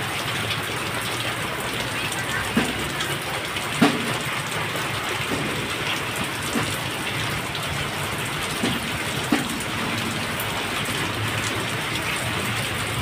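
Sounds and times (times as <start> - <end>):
heavy rain pouring: 0.0 - 13.0
loud water drip: 0.0 - 13.0
water streaming off a roof: 0.0 - 13.0.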